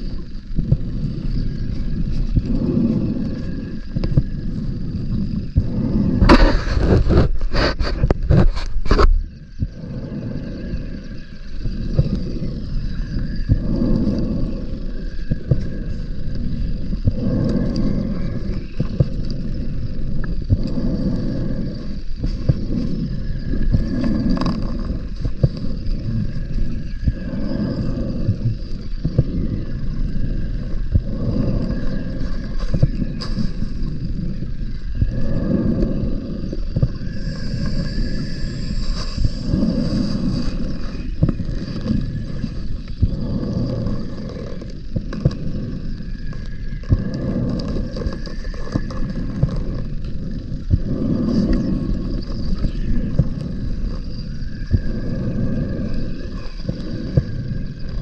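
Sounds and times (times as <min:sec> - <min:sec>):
exhaled bubbles rumbling: 0:00.0 - 0:58.0
regulator inhalation hiss: 0:00.0 - 0:58.0.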